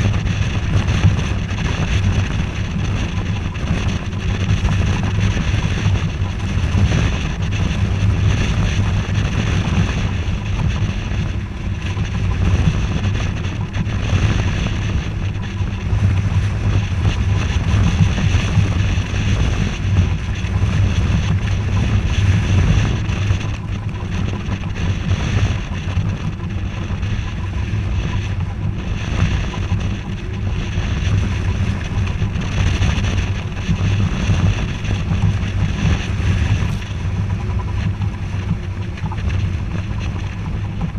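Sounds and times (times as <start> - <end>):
water rushing past boat: 0.0 - 40.9
wind buffeting microphone: 0.0 - 40.9.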